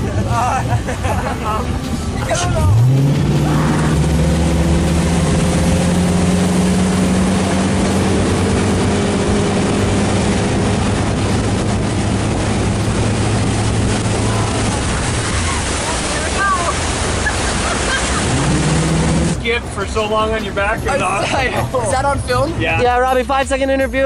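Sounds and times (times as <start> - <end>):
motorboat engine running: 0.0 - 24.0
water rushing: 0.0 - 24.0
wind: 0.0 - 24.0.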